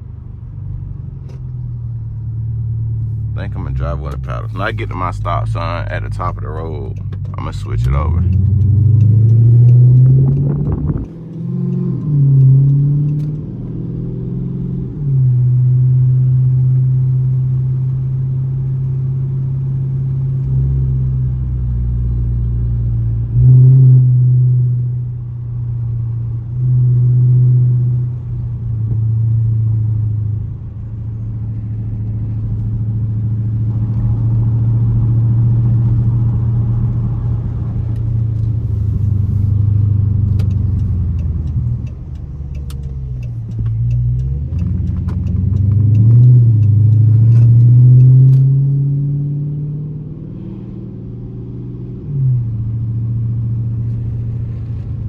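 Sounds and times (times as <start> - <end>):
car exhaust drone: 0.0 - 55.0.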